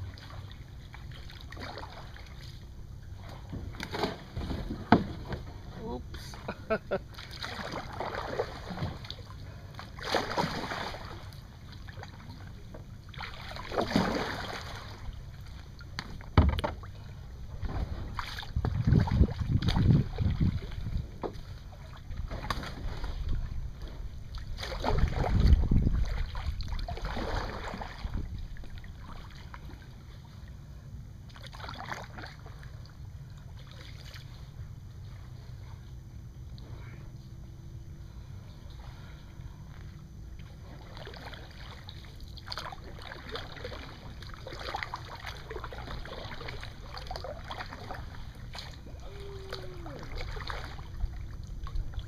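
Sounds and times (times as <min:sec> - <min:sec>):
paddle splashing in water: 0:00.0 - 0:17.0, 0:17.6 - 0:30.0, 0:31.3 - 0:32.8, 0:33.5 - 0:34.5, 0:40.4 - 0:52.0.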